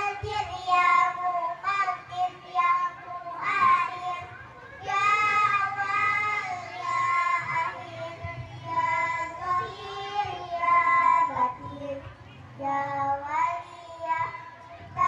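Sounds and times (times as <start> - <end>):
child singing: 0.0 - 15.0.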